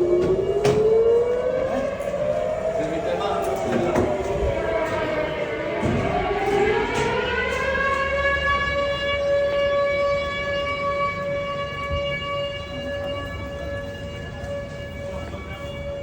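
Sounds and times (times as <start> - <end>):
air-raid siren: 0.0 - 16.0.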